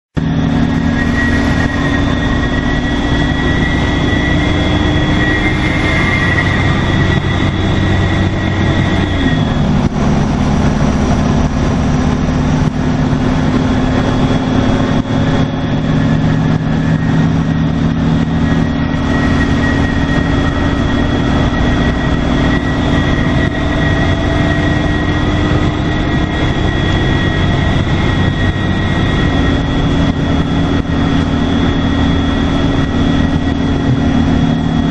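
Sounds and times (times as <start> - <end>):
bus engine hum: 0.1 - 34.9
turbo whistle: 0.2 - 34.9.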